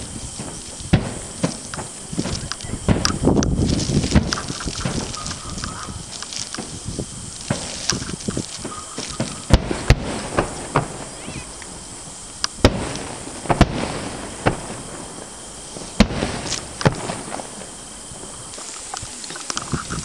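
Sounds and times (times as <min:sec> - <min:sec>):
firework cracks: 0:00.0 - 0:20.0
firework shells booming: 0:00.0 - 0:20.0.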